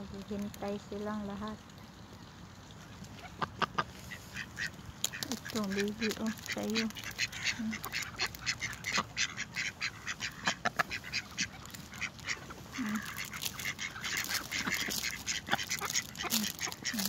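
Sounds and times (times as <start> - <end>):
ducks quacking: 2.2 - 17.0.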